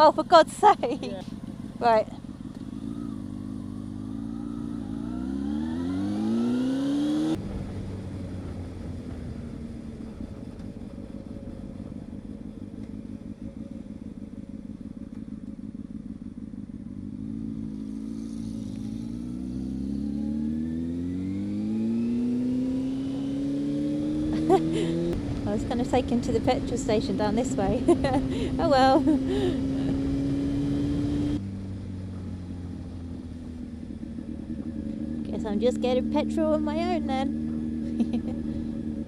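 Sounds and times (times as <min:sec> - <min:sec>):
motorcycle engine pulling away: 0:00.0 - 0:39.0.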